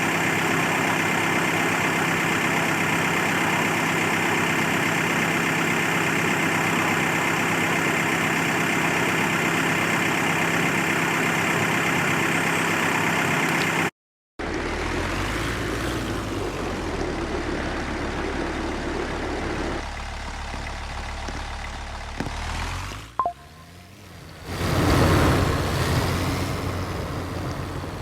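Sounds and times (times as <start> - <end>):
vehicle engine idling: 0.0 - 24.6.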